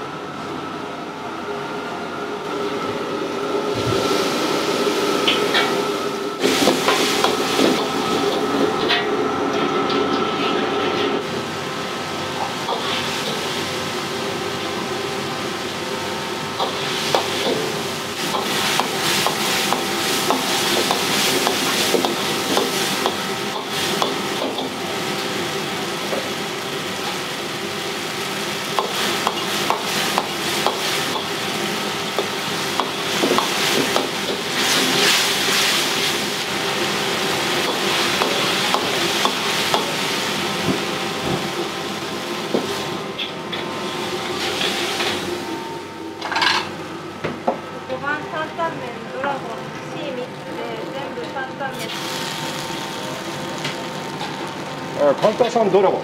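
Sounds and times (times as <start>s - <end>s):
steady hum: 0.0s - 56.0s
food sizzling: 3.8s - 8.8s, 11.2s - 43.0s, 43.7s - 46.8s, 48.0s - 56.0s.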